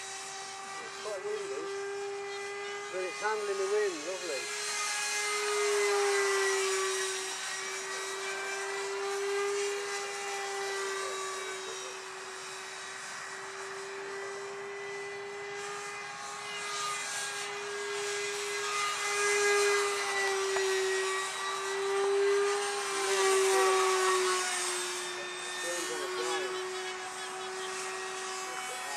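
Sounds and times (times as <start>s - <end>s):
electric jet fan whine: 0.0s - 28.9s.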